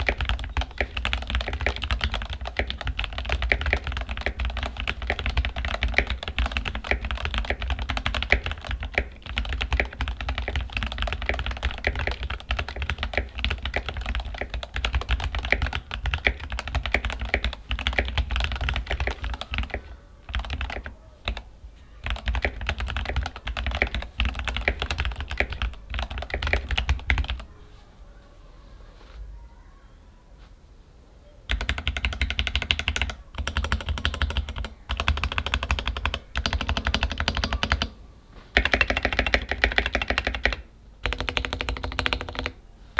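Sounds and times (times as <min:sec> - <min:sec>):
typing on mechanical keyboard: 0:00.0 - 0:27.5, 0:31.5 - 0:38.0, 0:38.6 - 0:42.6.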